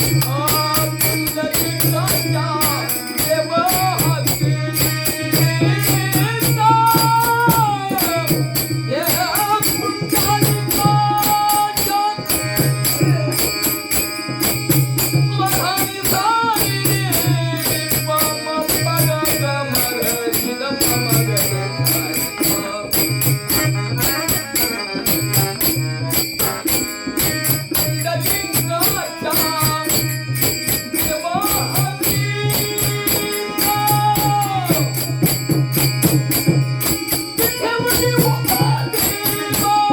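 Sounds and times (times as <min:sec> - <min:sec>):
devotional song melody: 0:00.0 - 0:39.9
jingling percussion: 0:00.0 - 0:39.9.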